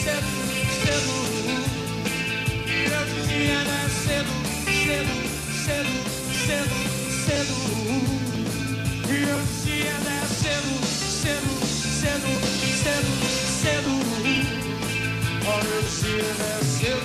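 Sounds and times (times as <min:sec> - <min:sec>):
man singing: 0:00.0 - 0:17.0
rock band playing live: 0:00.0 - 0:17.0.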